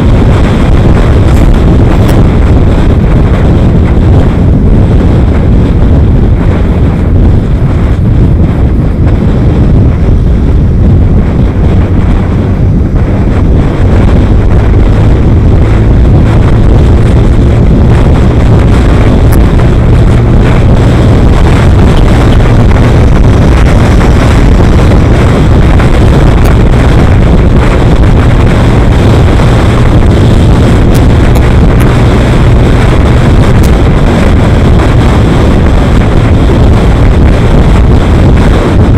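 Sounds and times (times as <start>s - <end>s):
deep steady drone: 0.0s - 38.9s
vehicle engine and road rumble: 0.0s - 38.9s
wind buffeting microphone: 0.0s - 38.9s.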